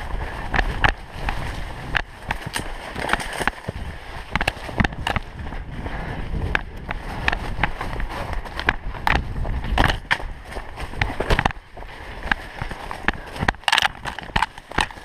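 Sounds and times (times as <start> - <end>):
leaves and branches rustling: 0.0 - 15.0
running footsteps: 0.0 - 15.0
wind rumble on microphone: 0.0 - 15.0.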